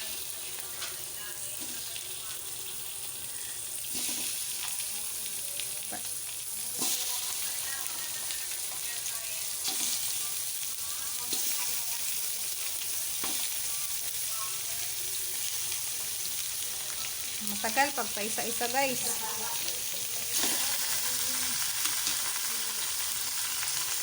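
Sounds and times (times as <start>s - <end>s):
chicken sizzling in hot oil: 0.0s - 24.0s.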